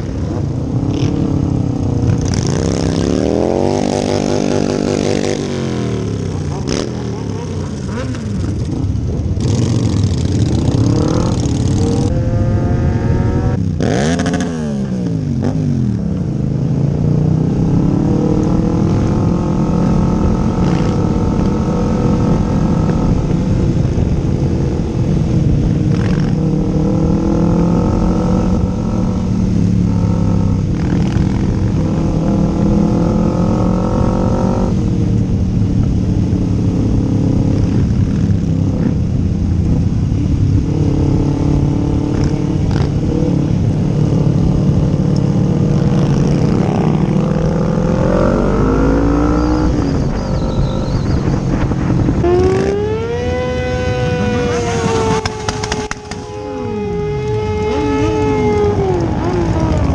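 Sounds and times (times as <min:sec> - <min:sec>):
motorcycle engine revving: 0:00.0 - 0:59.9
wind rumble: 0:00.0 - 0:59.9.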